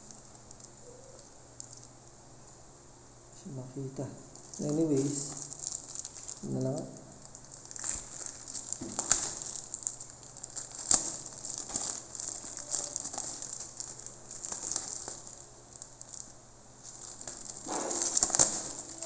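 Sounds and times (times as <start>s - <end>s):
plastic bag crinkling: 0.0s - 2.0s, 4.3s - 19.0s.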